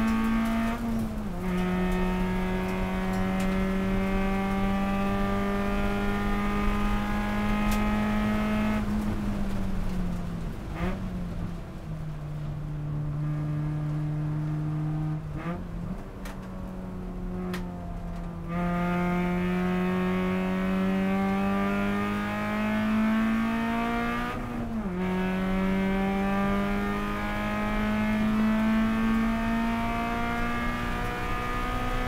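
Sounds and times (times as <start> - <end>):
car engine under full throttle: 0.0 - 32.0.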